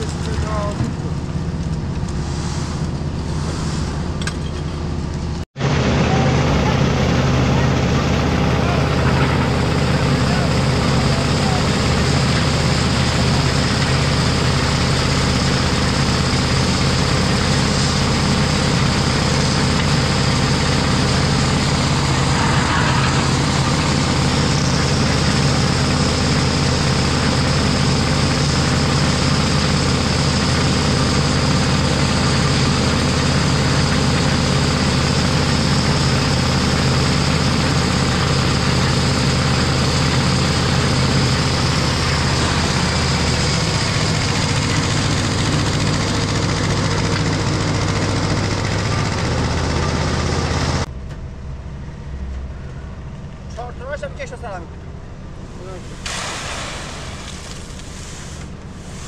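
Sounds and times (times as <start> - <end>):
concrete mixer engine running: 0.0 - 59.0.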